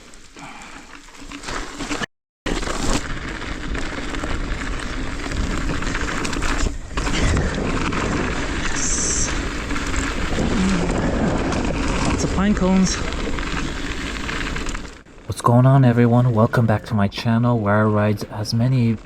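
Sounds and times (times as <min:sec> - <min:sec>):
mountain bike riding on dirt trail: 0:00.0 - 0:19.0.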